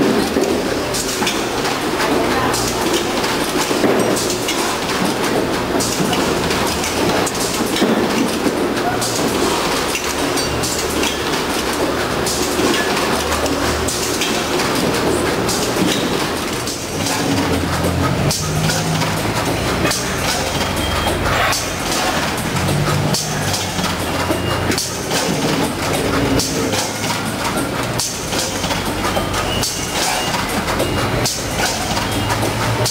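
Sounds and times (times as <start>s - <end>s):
machinery clattering: 0.0s - 32.9s.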